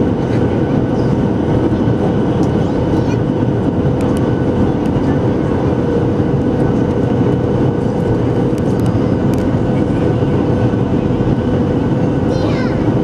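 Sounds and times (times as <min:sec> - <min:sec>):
jet engine and airflow rush: 0:00.0 - 0:13.0
steady cabin hum: 0:00.0 - 0:13.0.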